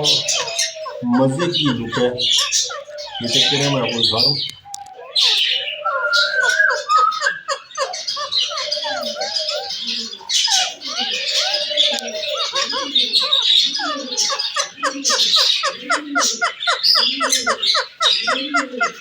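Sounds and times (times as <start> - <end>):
caged birds chirping: 0.0 - 19.0
myna squawking and whistling: 0.0 - 19.0.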